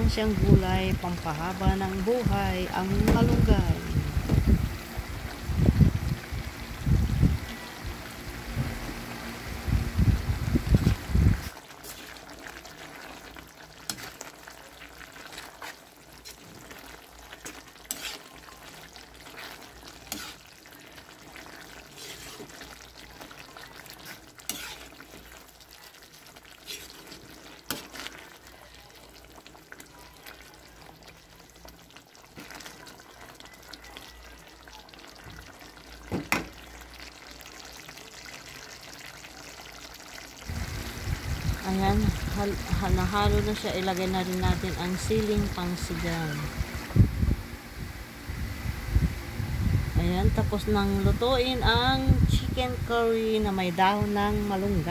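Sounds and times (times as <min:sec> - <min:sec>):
curry simmering in a wok: 0:04.1 - 0:49.9.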